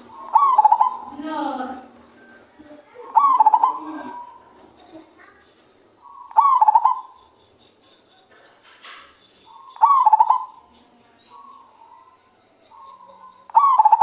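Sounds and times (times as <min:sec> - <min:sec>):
dove cooing: 0:00.0 - 0:05.4, 0:06.0 - 0:07.4, 0:09.5 - 0:14.0.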